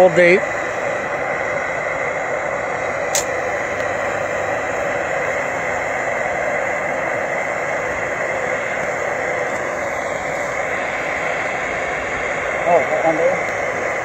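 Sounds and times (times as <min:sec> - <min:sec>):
propane torch hissing: 0:00.0 - 0:14.0.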